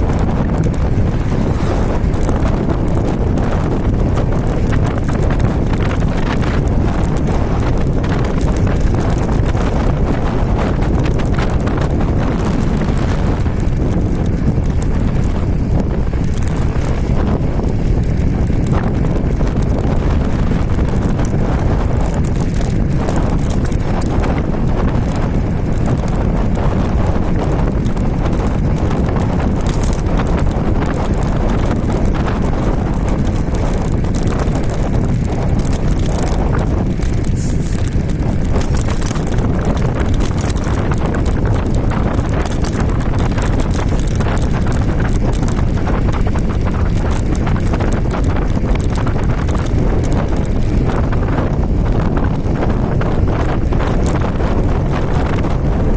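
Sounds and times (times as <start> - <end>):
scooter road rumble: 0.0 - 55.9
wind buffeting microphone: 0.0 - 55.9.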